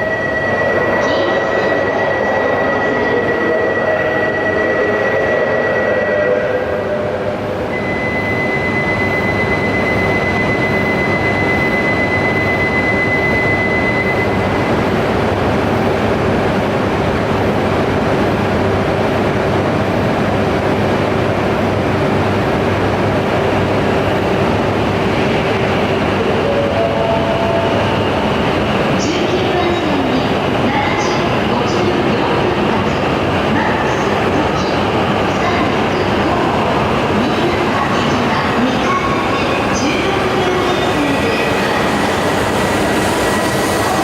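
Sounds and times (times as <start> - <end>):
train rushing past: 0.0 - 44.0.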